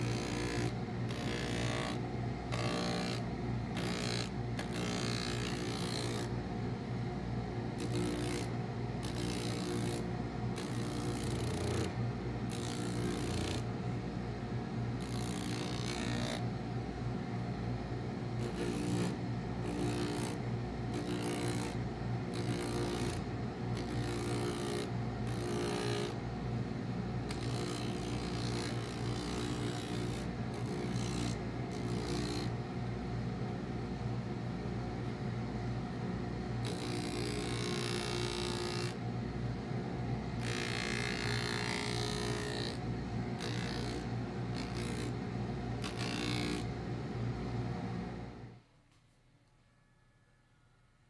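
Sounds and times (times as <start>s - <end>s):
workshop machine humming: 0.0s - 48.6s.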